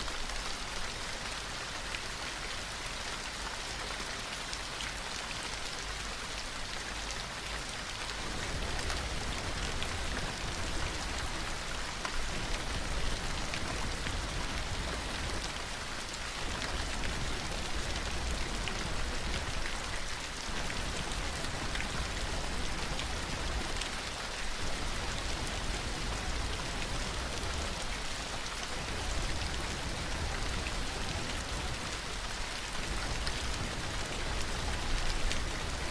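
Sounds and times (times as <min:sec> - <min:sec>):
steady rain hiss: 0:00.0 - 0:35.9.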